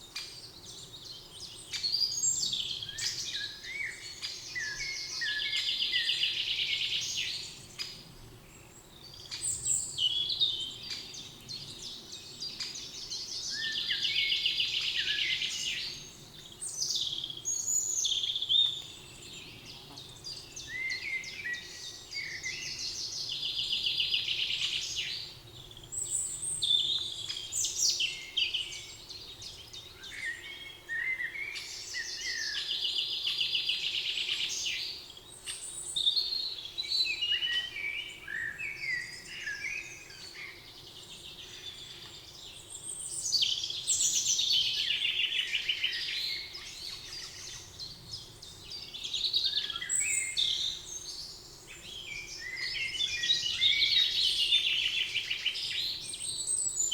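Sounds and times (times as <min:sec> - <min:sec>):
songbirds singing and trilling: 0:00.0 - 0:56.9.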